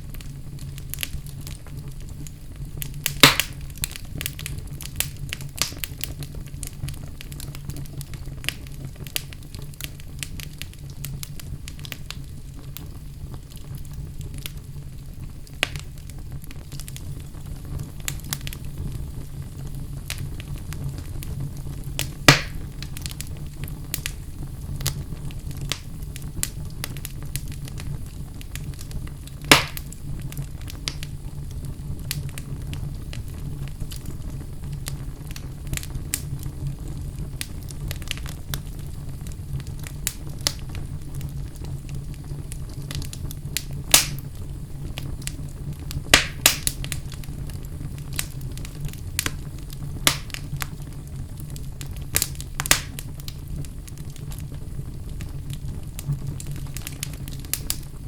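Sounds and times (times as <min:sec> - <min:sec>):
fire flames rumbling: 0:00.0 - 0:58.0
wood fire crackling and popping: 0:00.0 - 0:58.0.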